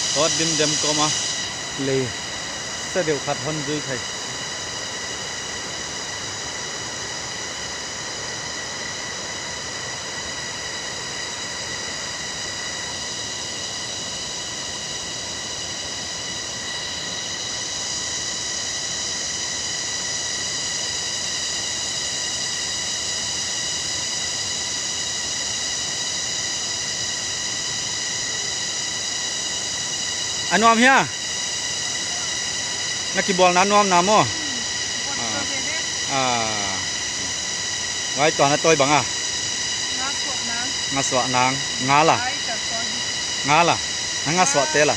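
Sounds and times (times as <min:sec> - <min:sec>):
forest insects buzzing: 0:00.0 - 0:44.9.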